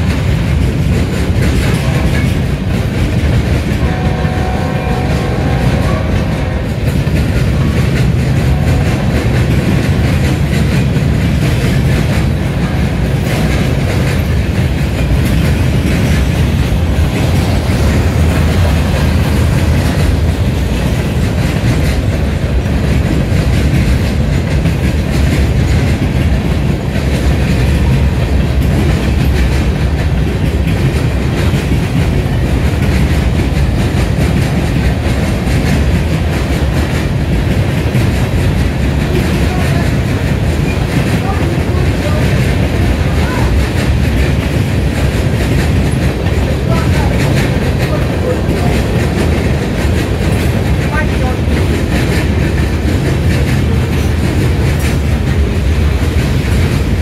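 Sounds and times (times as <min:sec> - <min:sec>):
clickety-clack over rail joints: 0:00.0 - 0:57.0
train wheels rumbling on rails: 0:00.0 - 0:57.0.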